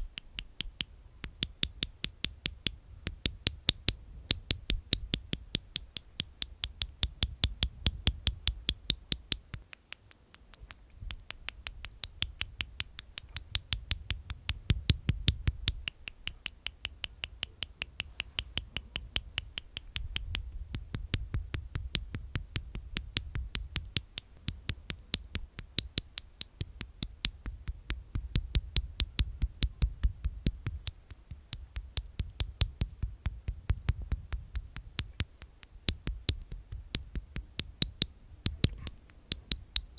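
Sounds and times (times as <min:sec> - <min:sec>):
tongue and teeth clicks: 0:00.0 - 0:39.9.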